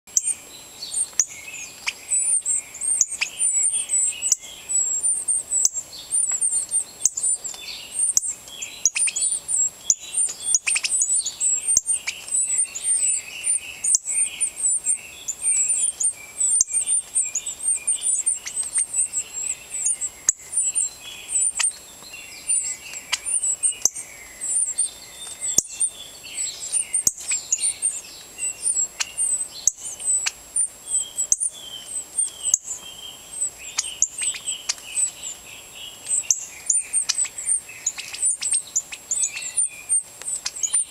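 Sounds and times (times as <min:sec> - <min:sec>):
lower chirping calls: 0:00.1 - 0:40.9
nestlings begging chirps: 0:00.1 - 0:40.9.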